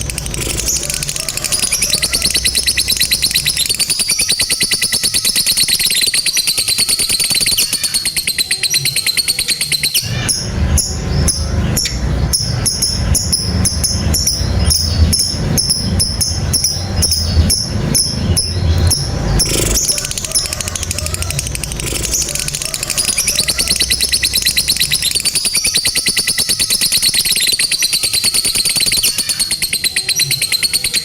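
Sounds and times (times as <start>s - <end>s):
bird chattering trill: 0.0s - 31.0s
rhythmic clicks: 0.0s - 31.0s.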